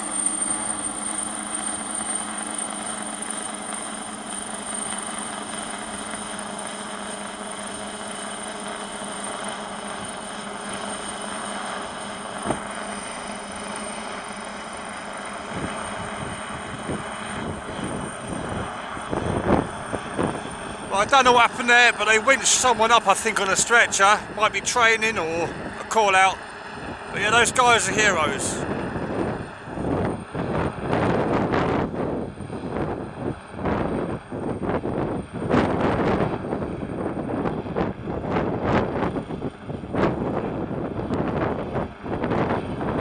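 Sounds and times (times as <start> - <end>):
helicopter rotor noise: 0.0 - 43.0
helicopter turbine whine: 0.0 - 43.0.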